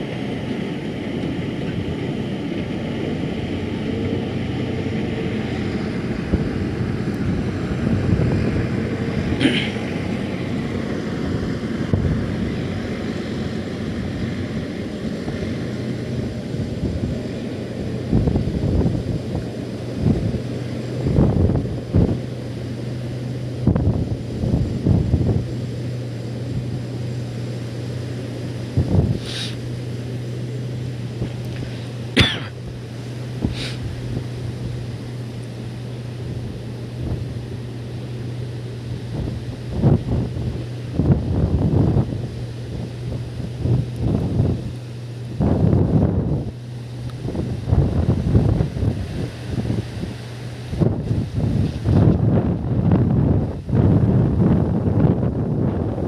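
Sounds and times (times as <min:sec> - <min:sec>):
steady low hum: 0:00.0 - 0:56.0
wind buffeting microphone: 0:00.0 - 0:56.0.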